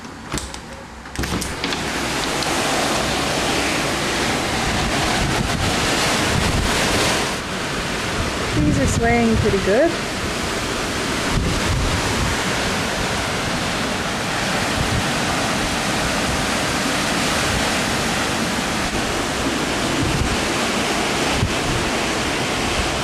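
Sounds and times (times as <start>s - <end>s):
strong wind rushing: 1.2s - 23.0s
wind buffeting microphone: 1.2s - 23.0s.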